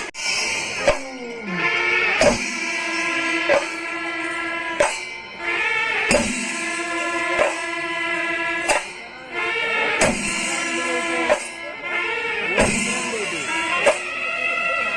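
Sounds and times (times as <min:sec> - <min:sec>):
sharp percussion strikes: 0:00.0 - 0:14.9
reed pipe long notes: 0:00.5 - 0:14.9.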